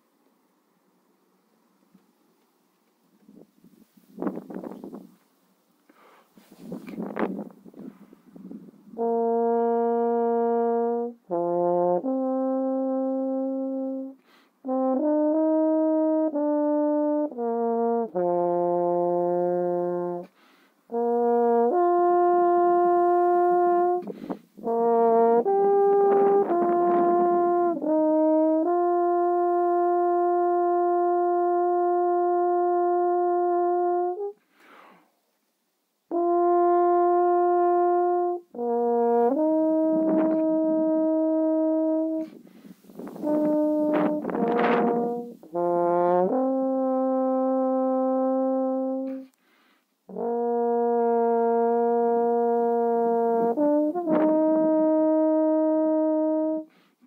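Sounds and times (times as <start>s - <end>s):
french horn slow melody: 5.9s - 35.0s, 36.0s - 57.0s.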